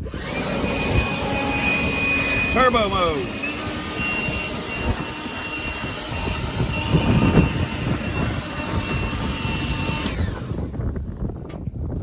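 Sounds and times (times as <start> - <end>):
leaf blower rushing blast: 0.0 - 11.3.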